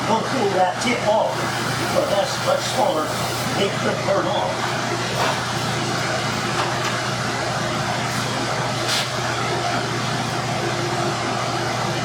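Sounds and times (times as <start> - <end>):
forge blower roaring: 0.0 - 12.0.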